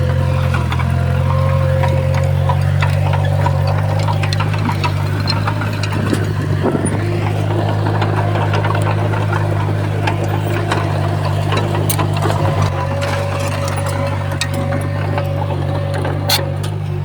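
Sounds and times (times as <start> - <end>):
diesel engine droning: 0.0 - 17.0
metal clanks and knocks: 0.0 - 17.0.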